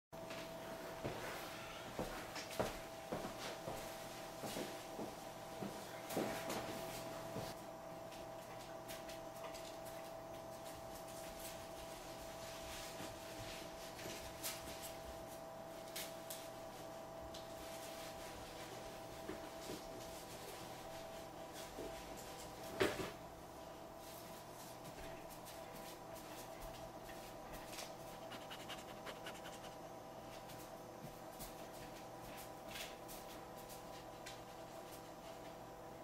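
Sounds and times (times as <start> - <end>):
steady hum: 0.2 - 36.0.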